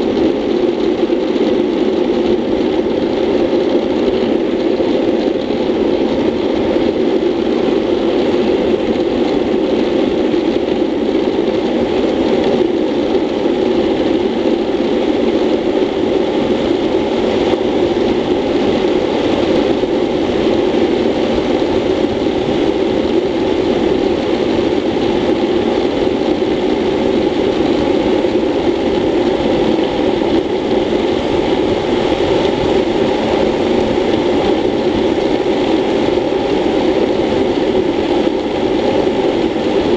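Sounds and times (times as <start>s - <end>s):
wheels rolling on asphalt: 0.0s - 39.9s
wind buffeting a camera: 0.0s - 39.9s.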